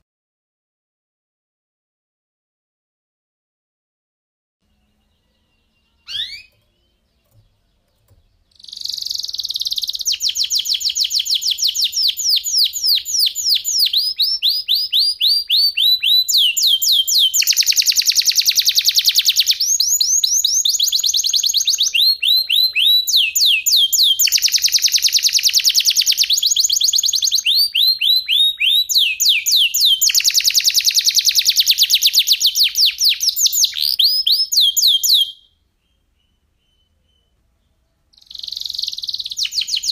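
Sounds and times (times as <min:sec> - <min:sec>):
canary singing: 0:04.6 - 0:39.9.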